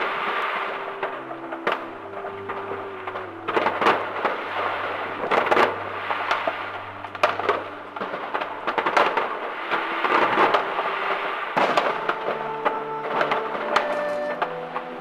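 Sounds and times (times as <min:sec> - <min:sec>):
fireworks bangs and crackling: 0:00.0 - 0:15.0
music: 0:00.0 - 0:15.0.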